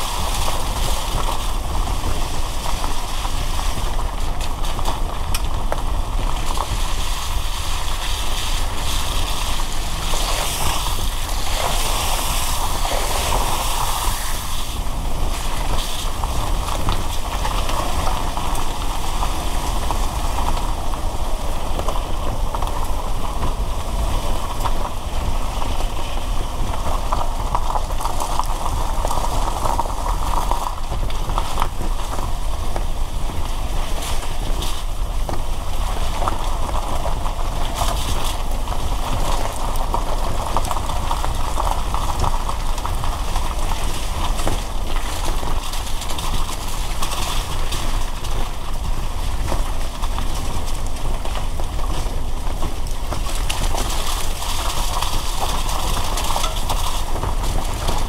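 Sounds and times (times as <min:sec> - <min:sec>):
car rumble: 0:00.0 - 0:58.0
rain: 0:00.0 - 0:58.0
tyres hissing on wet road: 0:06.0 - 0:58.0.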